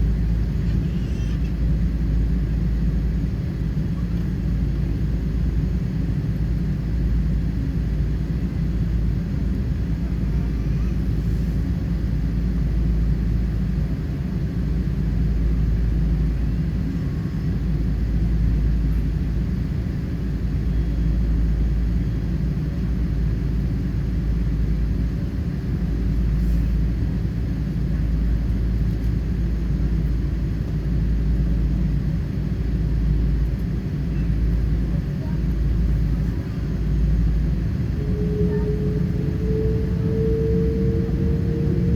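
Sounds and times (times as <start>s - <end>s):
airplane engine rumble in cabin: 0.0s - 41.9s.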